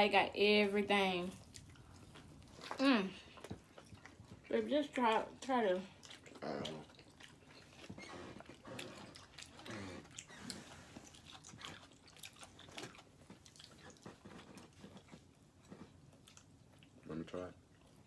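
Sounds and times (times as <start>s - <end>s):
pizza being chewed: 1.3s - 18.0s.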